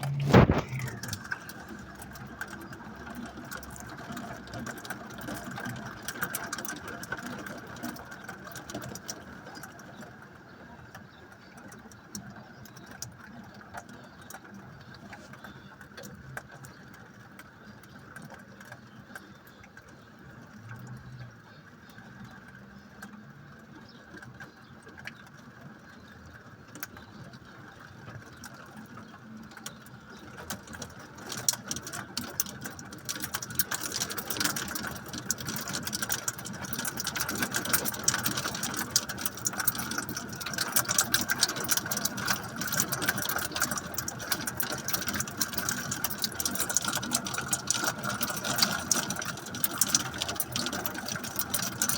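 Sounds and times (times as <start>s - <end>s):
rain and hail pattering: 0.0s - 51.9s.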